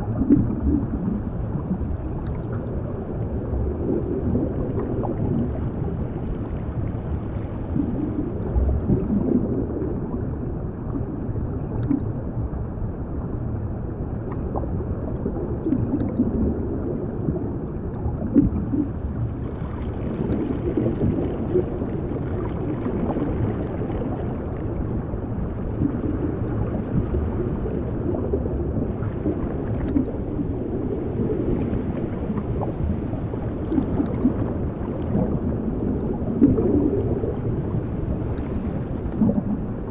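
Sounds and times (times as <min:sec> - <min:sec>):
muffled underwater rumble: 0:00.0 - 0:39.9
underwater bubbling: 0:00.0 - 0:39.9.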